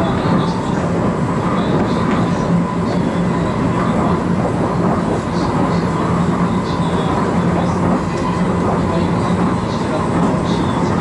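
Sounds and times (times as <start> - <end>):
train running rumble and hiss: 0.0 - 11.0.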